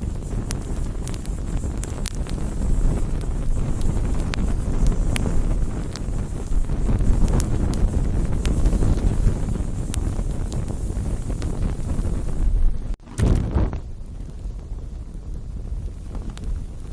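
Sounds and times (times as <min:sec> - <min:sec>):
campfire rumble: 0:00.0 - 0:16.9
fire crackles and pops: 0:00.0 - 0:16.9.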